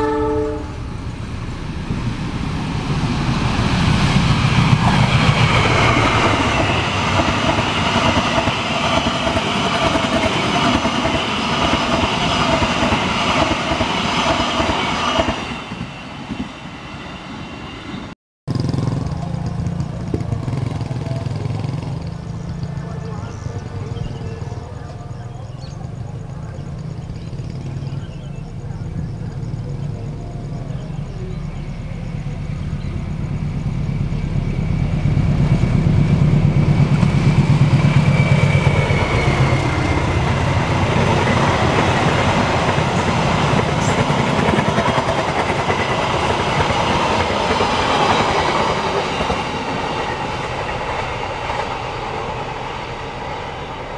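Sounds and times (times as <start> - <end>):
diesel locomotive rumble: 0.0 - 16.6, 18.5 - 53.9
train wheels on rails: 0.8 - 53.9.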